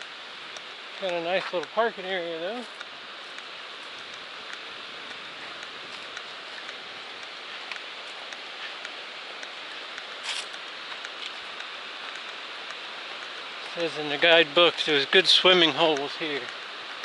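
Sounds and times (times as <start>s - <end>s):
creek water rushing: 0.0s - 17.0s
footsteps on pavement: 0.5s - 17.0s.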